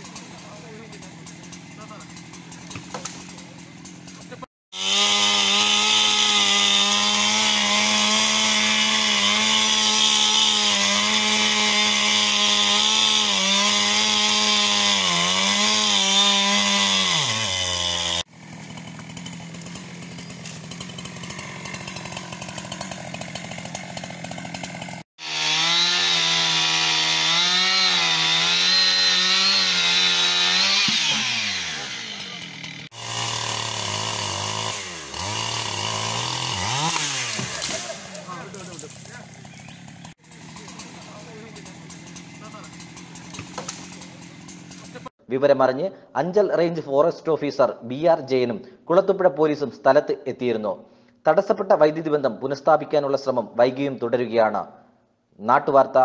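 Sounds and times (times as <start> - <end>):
chainsaw cutting wood: 0.0 - 45.2.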